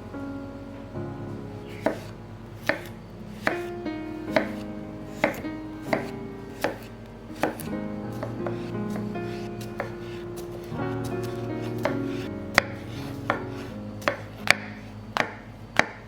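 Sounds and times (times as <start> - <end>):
soft background music: 0.0 - 16.0
knife chopping on cutting board: 1.7 - 3.7, 4.3 - 16.0.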